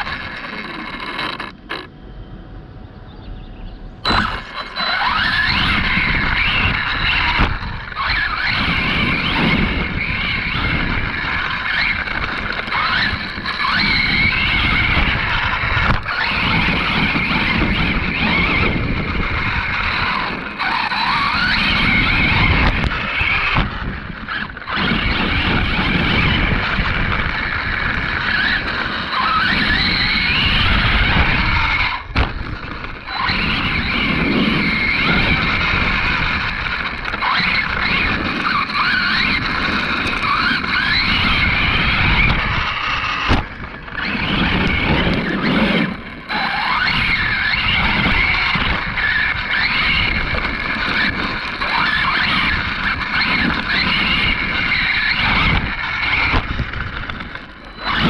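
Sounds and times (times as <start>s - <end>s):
toy truck motor whining: 0.0s - 1.9s, 4.0s - 58.0s.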